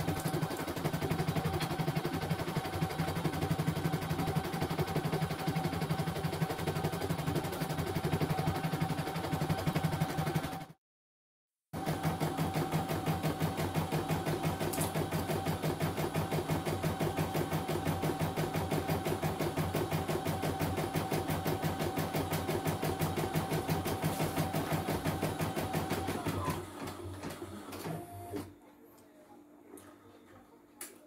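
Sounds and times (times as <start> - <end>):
embroidery machine stitching: 0.0 - 10.8, 11.8 - 28.5.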